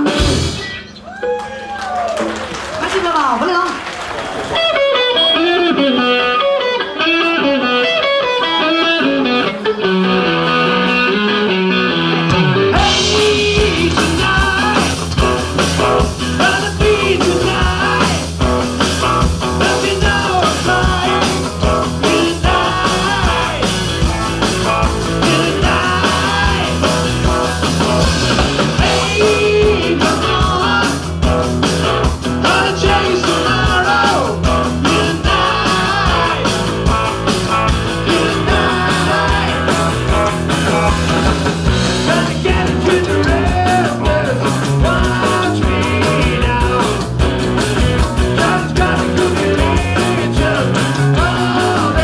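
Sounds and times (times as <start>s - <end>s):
country rock band playing: 0.0s - 52.0s
electric guitar run: 4.0s - 52.0s.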